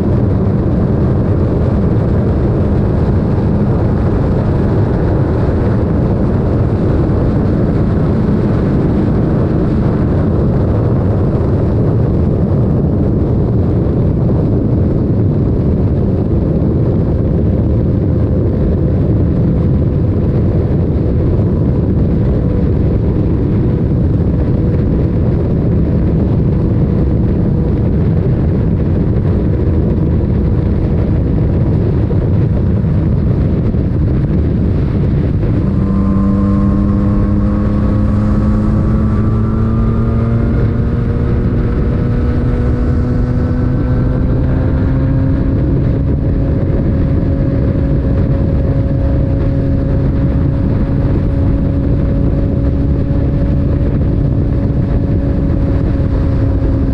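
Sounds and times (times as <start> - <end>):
motorcycle engine running: 0.0 - 56.9
wind rumble: 0.0 - 56.9.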